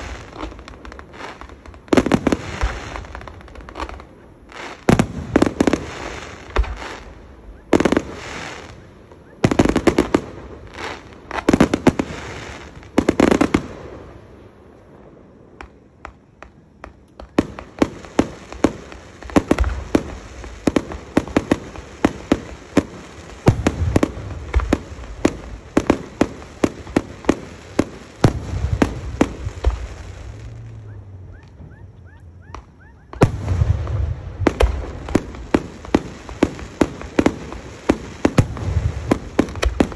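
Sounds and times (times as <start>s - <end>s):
firework shells booming: 0.0s - 14.2s, 15.6s - 39.9s
firework pops and crackles: 0.0s - 30.8s, 32.4s - 39.9s.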